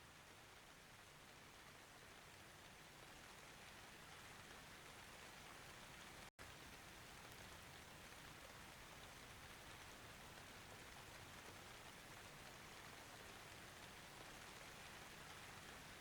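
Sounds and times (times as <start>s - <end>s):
faint steady rain: 0.0s - 16.0s.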